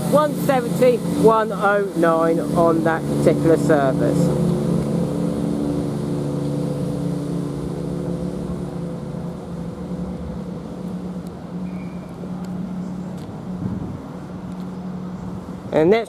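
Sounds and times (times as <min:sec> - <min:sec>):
train diesel engines humming: 0:00.0 - 0:16.0.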